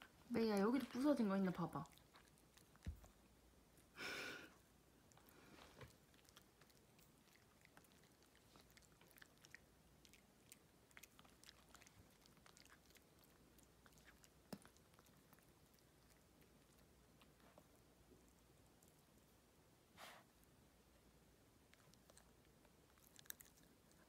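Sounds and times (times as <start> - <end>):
puppy gnawing a dog chew: 0.0 - 20.2, 21.0 - 24.0.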